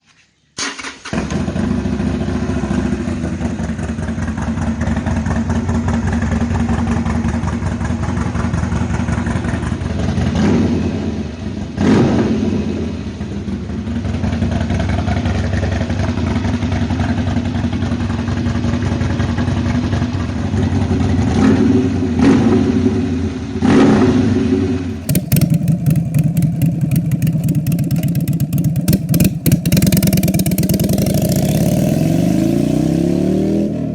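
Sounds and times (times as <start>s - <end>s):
motorcycle engine with throttle blips: 1.2s - 33.9s.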